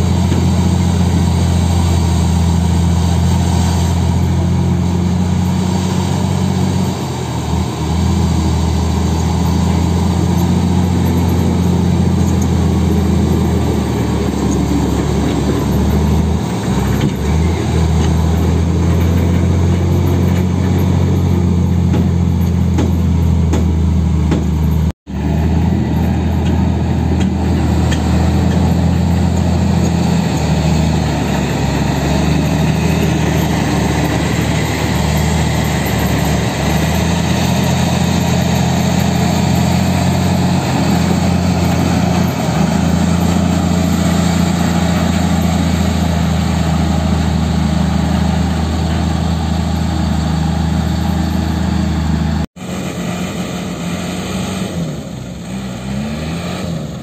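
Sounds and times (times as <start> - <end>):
diesel engines running under load: 0.0 - 57.0.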